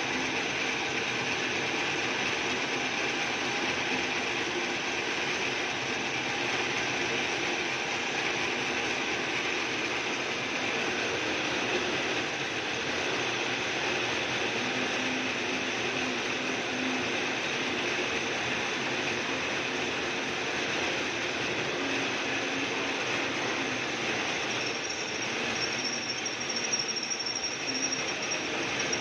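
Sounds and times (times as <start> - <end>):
drill press whirring: 0.0 - 29.0.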